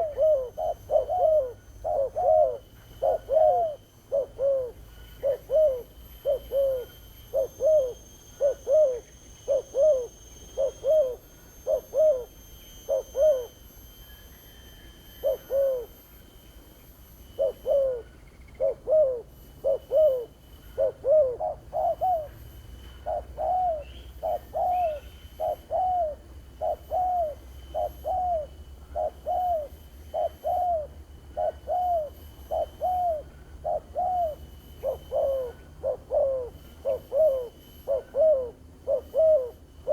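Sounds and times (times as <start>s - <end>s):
dove cooing: 0.0s - 16.4s, 17.1s - 39.9s.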